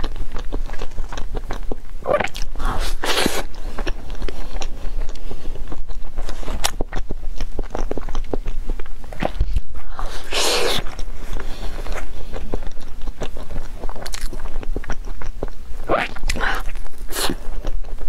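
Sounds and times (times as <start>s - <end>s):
chewing with mouth clicks: 0.0s - 18.0s.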